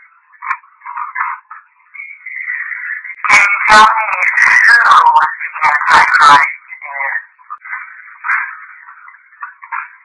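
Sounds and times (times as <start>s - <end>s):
voice recorder speaker playback: 0.0s - 10.0s.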